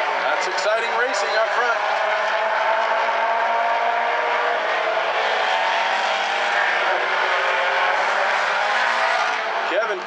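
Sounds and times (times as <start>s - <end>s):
race car engines at high revs: 0.0s - 10.0s.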